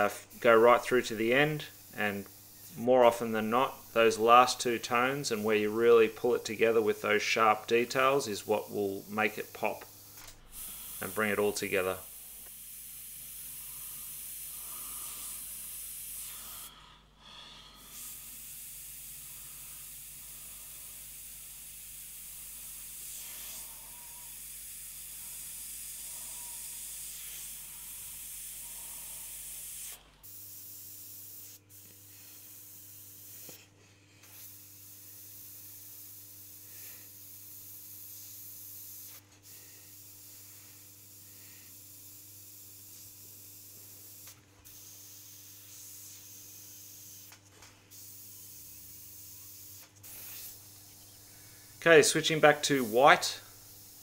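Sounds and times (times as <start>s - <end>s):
airbrush spraying hiss: 0.0s - 6.1s, 7.4s - 54.0s.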